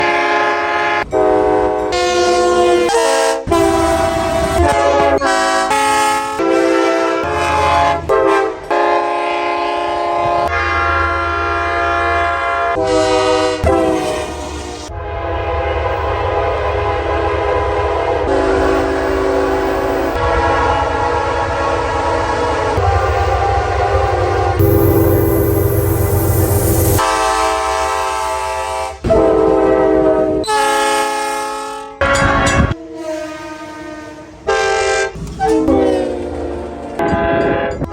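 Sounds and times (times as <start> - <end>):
train air horn chords: 0.0 - 37.9.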